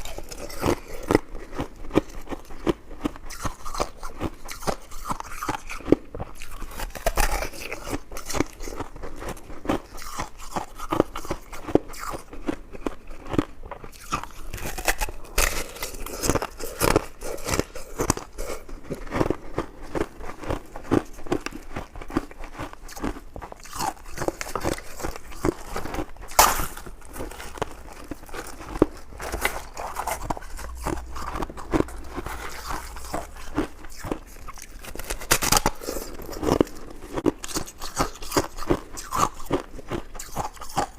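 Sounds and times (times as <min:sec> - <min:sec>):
person biting and chewing: 0:00.0 - 0:40.9.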